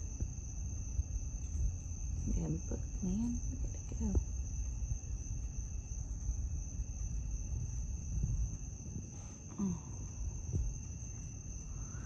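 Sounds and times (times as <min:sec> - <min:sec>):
crickets trilling: 0:00.0 - 0:12.0
low rumbling microphone noise: 0:00.0 - 0:12.0.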